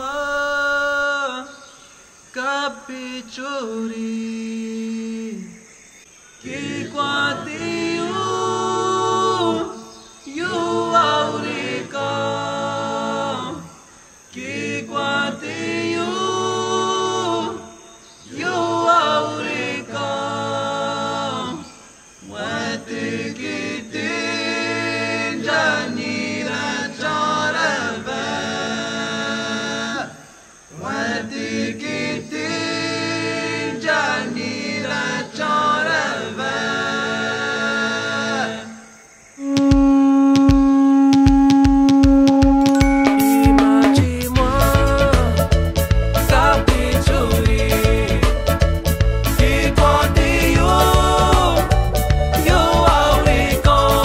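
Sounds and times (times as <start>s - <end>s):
vocal group singing in harmony: 0.0s - 54.0s.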